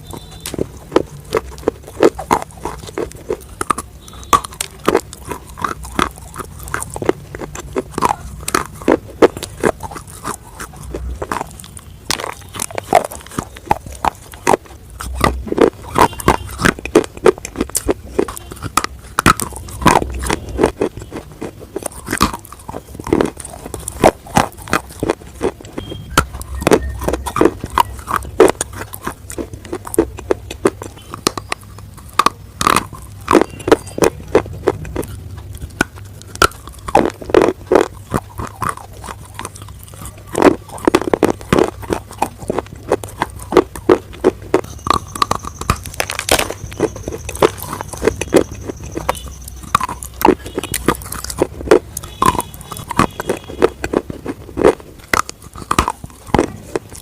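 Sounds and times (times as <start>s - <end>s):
crunching and chewing fried food: 0.0s - 57.0s.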